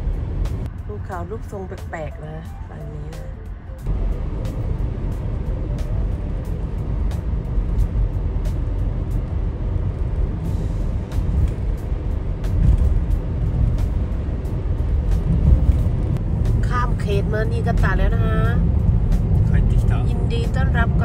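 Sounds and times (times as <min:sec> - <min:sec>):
car engine and road rumble: 0:00.0 - 0:21.0
background music with ticking beat: 0:00.1 - 0:09.3, 0:10.2 - 0:21.0.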